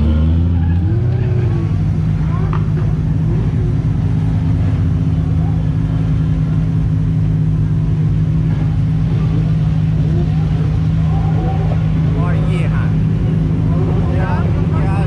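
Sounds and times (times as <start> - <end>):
car engine revving: 0.0 - 15.0
low engine drone: 0.0 - 15.0.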